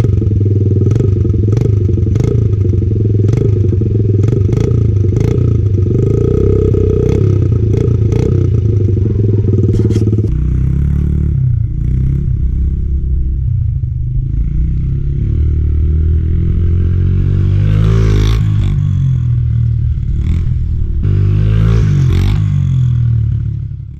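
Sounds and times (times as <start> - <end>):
small motorcycle engine revving: 0.0 - 13.6, 14.2 - 23.9.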